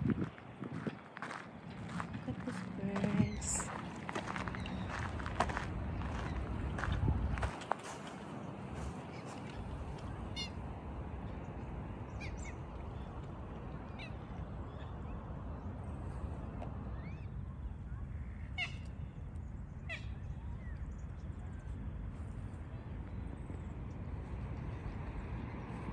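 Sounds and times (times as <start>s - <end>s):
outdoor background rush: 0.0s - 25.9s.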